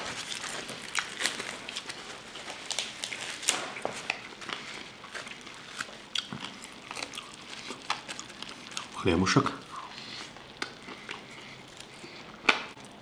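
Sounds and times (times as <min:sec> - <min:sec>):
person chewing crispy fish: 0:00.0 - 0:13.0.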